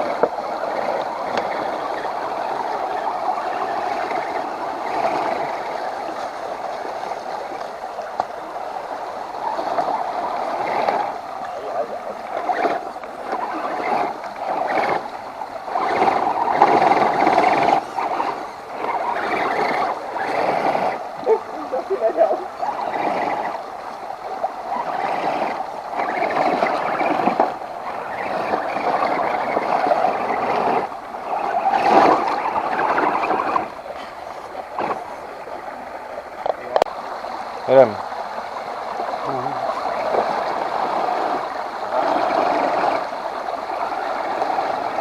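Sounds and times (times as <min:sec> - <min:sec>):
water splashing: 0:00.0 - 0:45.0.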